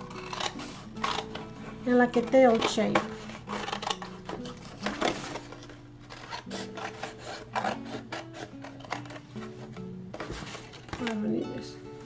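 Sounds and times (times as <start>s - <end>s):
scissors snipping paper: 0.0s - 9.7s
paper rustling: 0.0s - 11.4s
background music: 0.0s - 12.0s.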